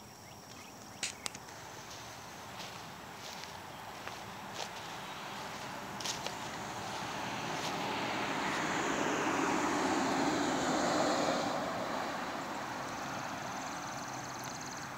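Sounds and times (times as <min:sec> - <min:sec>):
vehicle passing by: 0:01.6 - 0:14.9.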